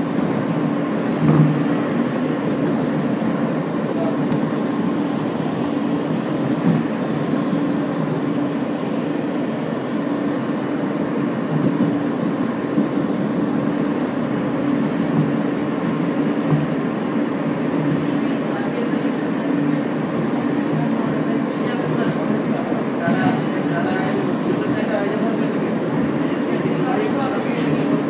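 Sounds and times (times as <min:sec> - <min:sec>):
subway wheel and motor noise: 0:00.0 - 0:28.0.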